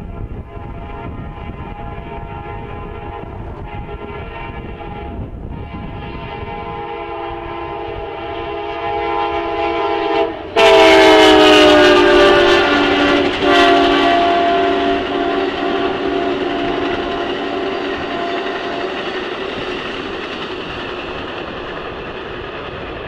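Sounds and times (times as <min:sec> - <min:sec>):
train air horn: 0:00.0 - 0:20.0
train rumble and wheel clatter: 0:00.0 - 0:23.0.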